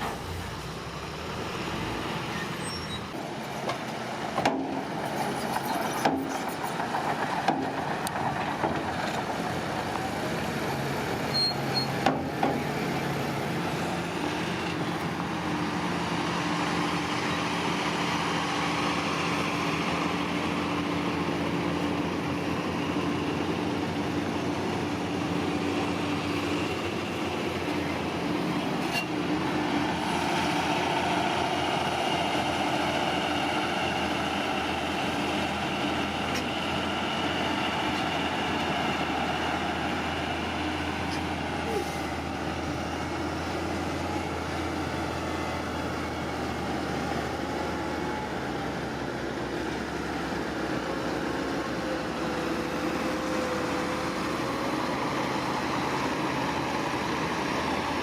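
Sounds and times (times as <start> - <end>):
heavy machinery engine running: 0.0 - 58.0.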